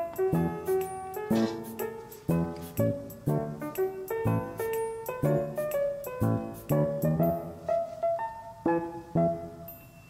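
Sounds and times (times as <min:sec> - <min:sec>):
light keyboard tune: 0:00.0 - 0:10.0.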